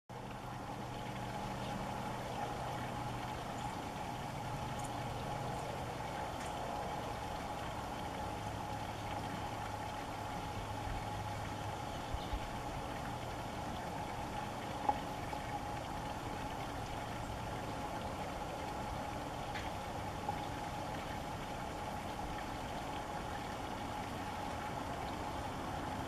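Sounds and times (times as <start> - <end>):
low mechanical hum: 0.1 - 26.0.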